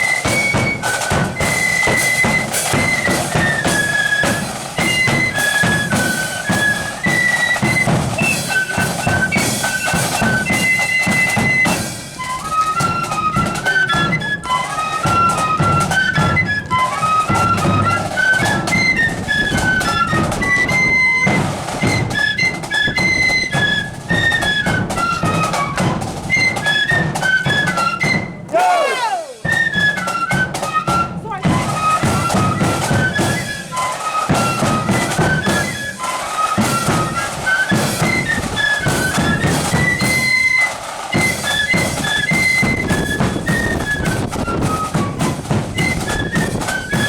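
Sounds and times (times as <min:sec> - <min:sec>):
high flute melody: 0:00.0 - 0:47.0
snare and bass drums: 0:00.0 - 0:47.0.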